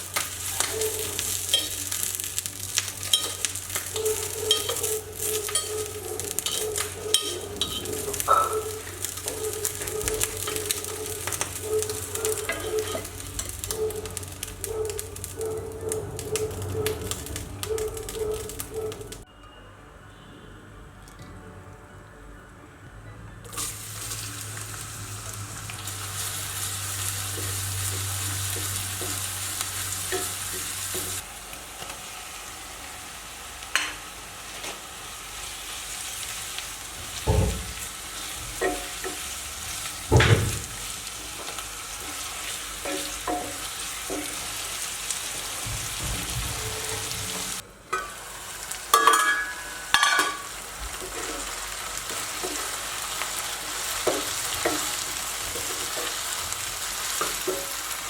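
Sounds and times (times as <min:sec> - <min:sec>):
food sizzling in a frying pan: 0:00.0 - 0:19.2, 0:23.5 - 0:58.0.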